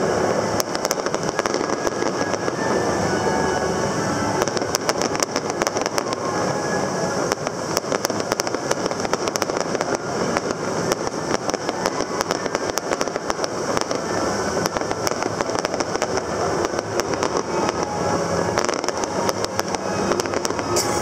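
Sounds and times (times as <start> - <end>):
fireworks popping and crackling: 0.0 - 21.0.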